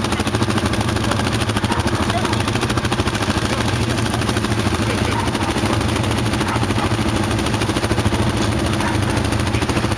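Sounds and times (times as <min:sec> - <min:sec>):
atv engines idling: 0:00.0 - 0:09.9.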